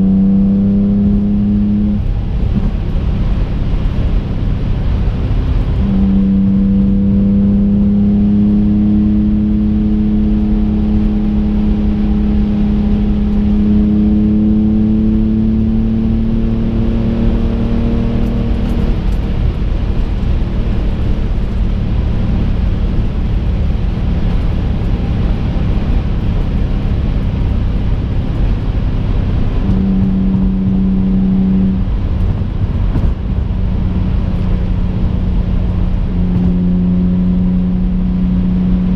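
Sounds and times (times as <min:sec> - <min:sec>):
car engine drone: 0:00.0 - 0:38.9
road rumble inside car: 0:00.0 - 0:38.9.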